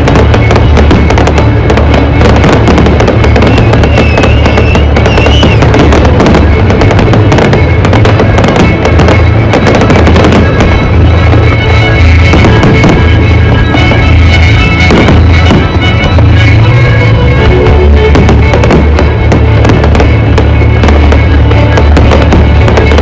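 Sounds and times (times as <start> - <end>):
firework wavering whistle: 0.0 - 23.0
fireworks bangs and crackles: 0.0 - 23.0
music playing: 0.0 - 23.0.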